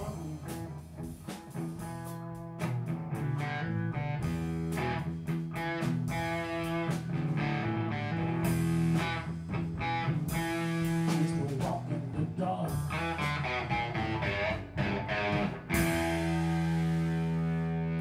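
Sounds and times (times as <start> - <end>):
electric guitar lines: 0.0 - 18.0
live rock band playing: 0.0 - 18.0.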